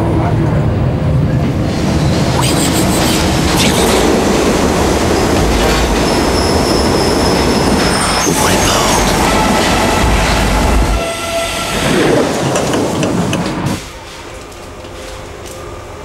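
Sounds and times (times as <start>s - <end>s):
subway train rumble: 0.0s - 16.0s
track clacks: 2.1s - 15.6s.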